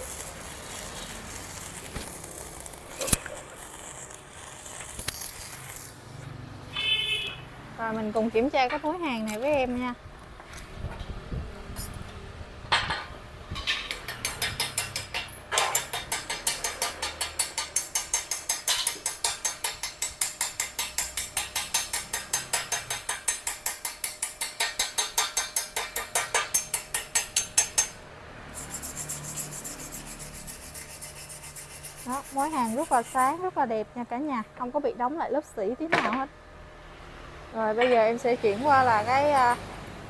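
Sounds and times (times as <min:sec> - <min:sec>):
hand tool scraping weld: 0:00.0 - 0:06.9, 0:07.9 - 0:11.1, 0:11.8 - 0:12.2, 0:12.8 - 0:34.2, 0:37.8 - 0:40.0.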